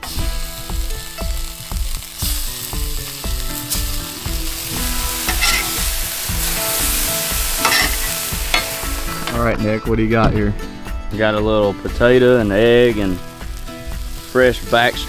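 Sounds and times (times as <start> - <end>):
meat sizzling on a griddle: 0.0 - 9.4, 12.0 - 15.0
background music with a beat: 0.0 - 15.0.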